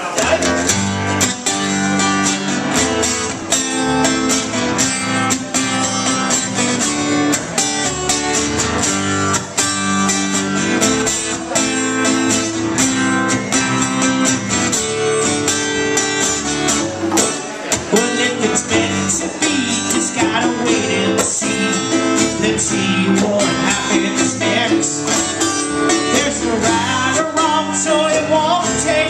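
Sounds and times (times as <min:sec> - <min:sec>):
plucked upright bass: 0:00.0 - 0:29.0
strummed acoustic guitar: 0:00.0 - 0:29.0.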